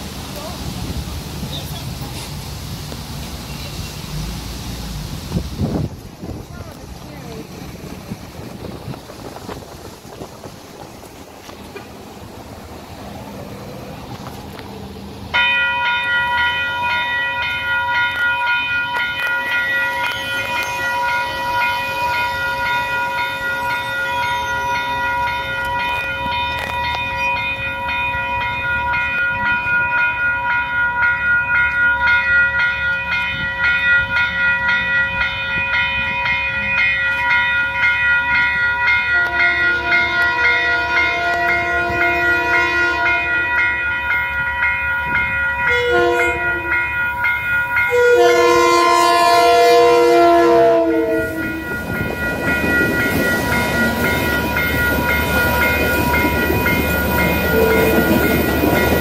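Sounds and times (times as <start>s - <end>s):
train high-pitched whine: 0.0s - 59.0s
train wheels rumbling on rails: 0.0s - 59.0s.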